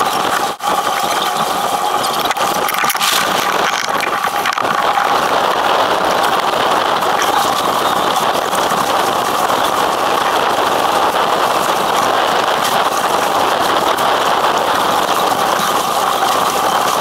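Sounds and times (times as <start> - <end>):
water rushing along a hull: 0.0 - 17.0.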